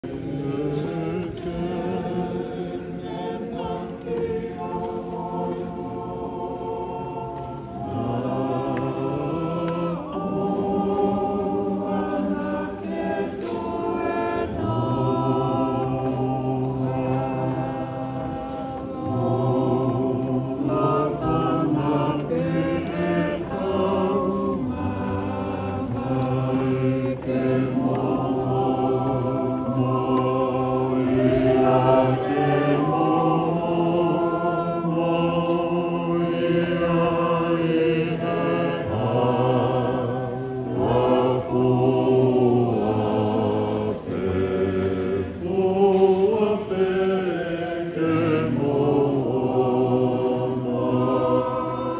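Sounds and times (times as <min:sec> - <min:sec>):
choir singing a hymn: 0:00.0 - 0:51.9.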